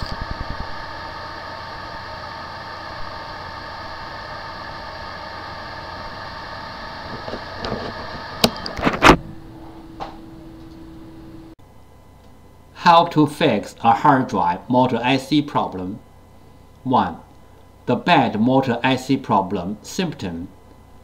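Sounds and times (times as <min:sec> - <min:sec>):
hard drive whining hum: 0:00.0 - 0:21.0.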